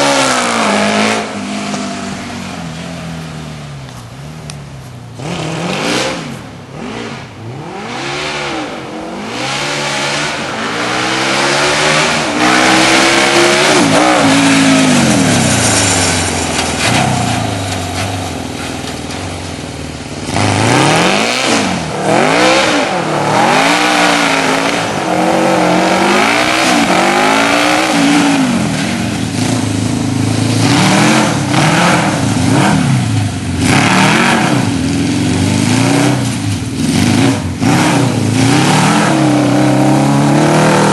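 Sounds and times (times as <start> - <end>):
go-kart engine revving: 0.0 - 3.8, 5.2 - 40.9.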